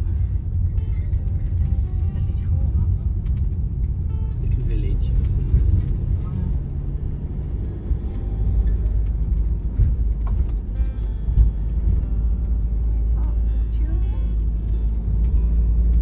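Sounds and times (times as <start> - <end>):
van road rumble: 0.0 - 16.0.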